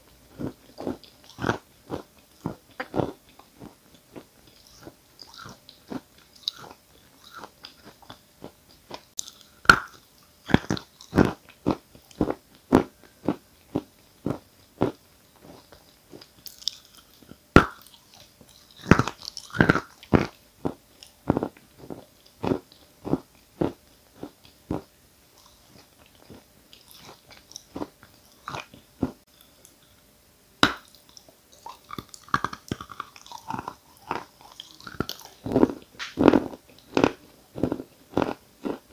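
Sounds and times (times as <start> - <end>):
wet chewing: 0.4 - 29.9, 30.6 - 38.9.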